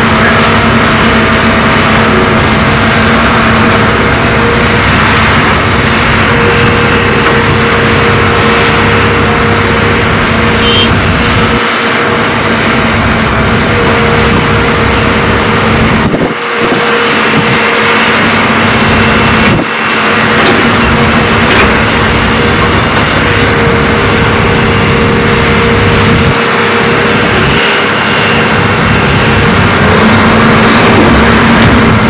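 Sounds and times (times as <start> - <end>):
excavator diesel engines running: 0.0 - 32.0.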